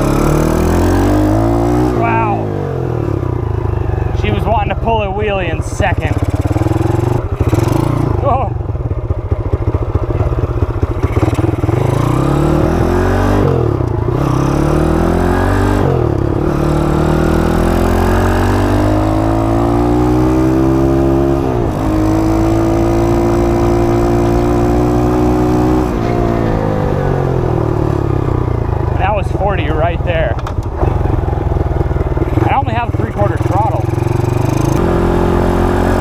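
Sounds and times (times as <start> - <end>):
minibike engine accelerating: 0.0 - 36.0.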